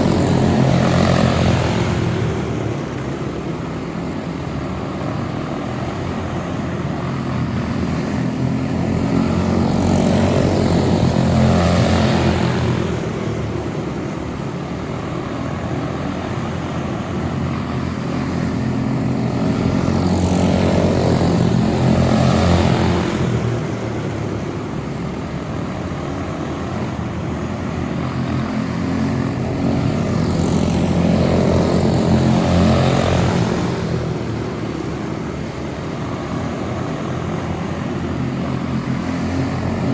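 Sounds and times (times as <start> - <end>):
model airplane engine droning: 0.0 - 39.9.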